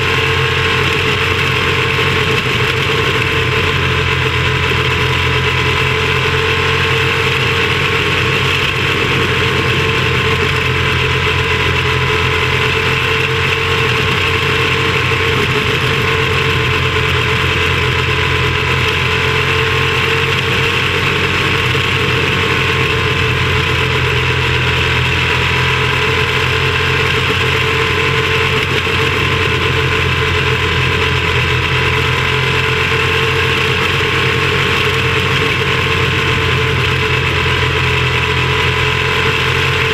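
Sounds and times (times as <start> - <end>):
small race car engine: 0.0 - 39.9.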